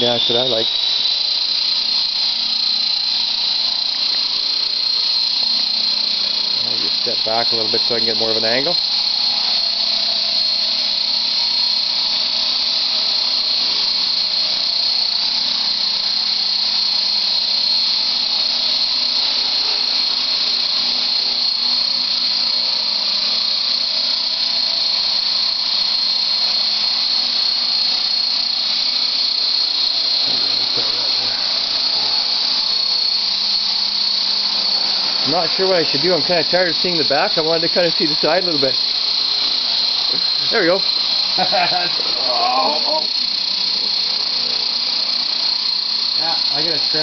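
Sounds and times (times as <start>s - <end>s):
model helicopter hovering: 0.0s - 47.0s.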